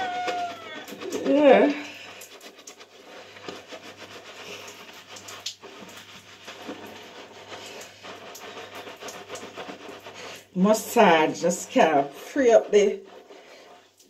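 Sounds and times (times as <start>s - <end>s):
lather crackles: 0.0s - 14.0s
wet hair squishing and rubbing: 0.0s - 14.0s.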